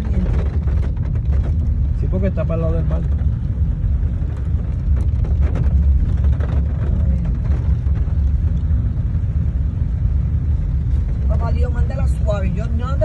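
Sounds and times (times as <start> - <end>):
car driving on dirt road: 0.0 - 13.0.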